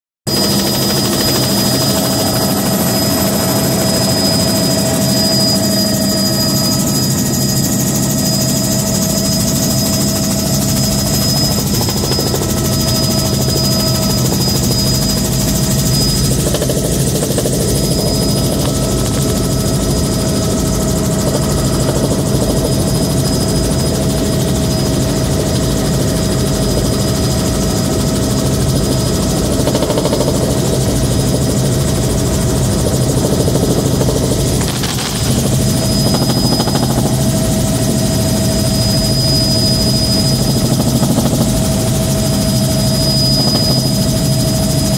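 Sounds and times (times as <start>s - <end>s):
helicopter drone with turbine whine: 0.3s - 44.9s.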